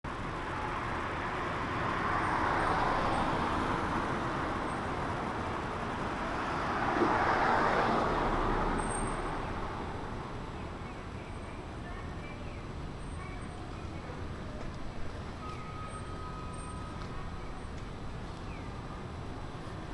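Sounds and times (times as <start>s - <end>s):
cars passing: 0.1s - 19.9s.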